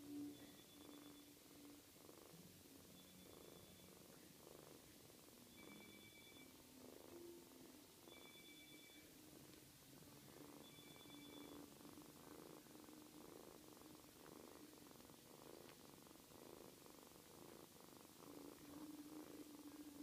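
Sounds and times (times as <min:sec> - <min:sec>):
cats purring: 0:00.0 - 0:20.0.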